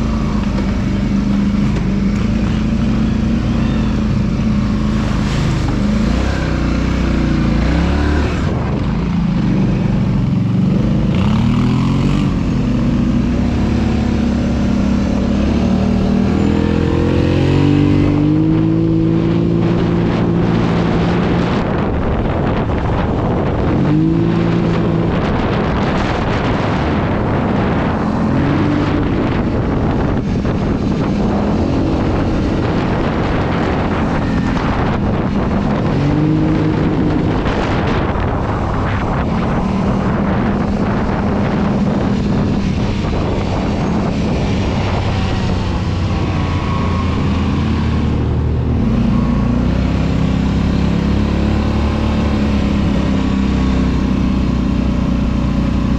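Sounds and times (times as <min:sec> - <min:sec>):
engine revving under load: 0:00.0 - 0:09.8, 0:10.7 - 0:55.9
road and wind noise: 0:00.0 - 0:55.9.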